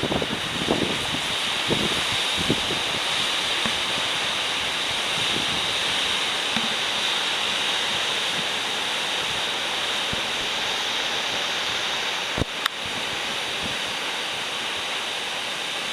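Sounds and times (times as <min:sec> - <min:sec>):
wind on microphone: 0:00.0 - 0:15.0
waves breaking on shore: 0:00.0 - 0:15.9.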